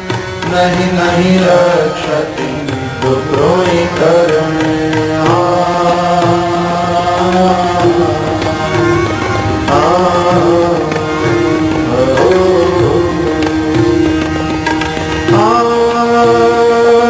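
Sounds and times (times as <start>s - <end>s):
instrumental accompaniment: 0.0s - 17.0s
man singing devotional melody: 0.0s - 17.0s.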